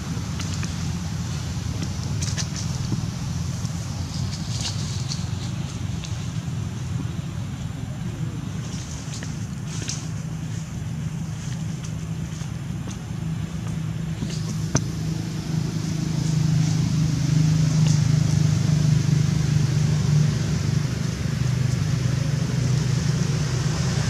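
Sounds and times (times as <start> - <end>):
low motor drone: 0.0 - 24.0.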